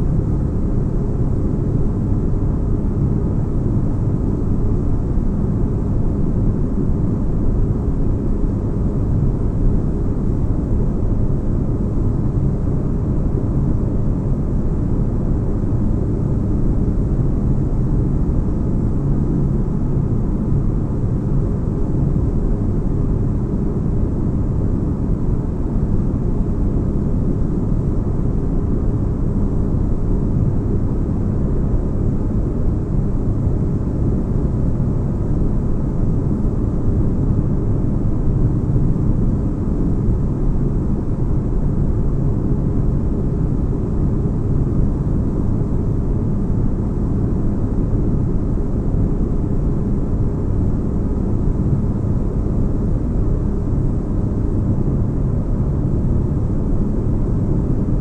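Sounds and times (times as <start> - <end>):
faint constant tones: 0.0 - 58.0.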